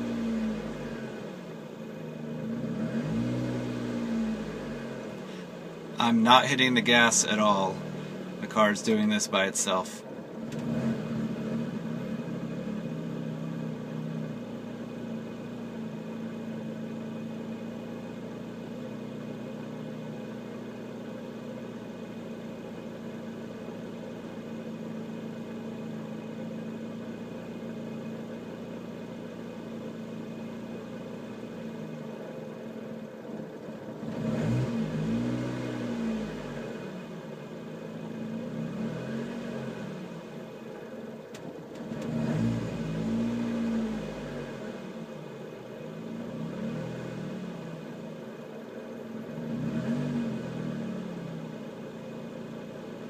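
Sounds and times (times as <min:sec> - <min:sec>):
car engine rough idling: 0:00.0 - 0:53.0.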